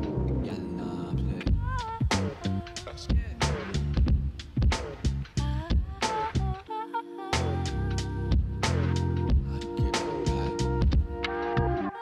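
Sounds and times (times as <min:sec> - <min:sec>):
background music with beat: 0:01.4 - 0:06.7, 0:07.3 - 0:12.0.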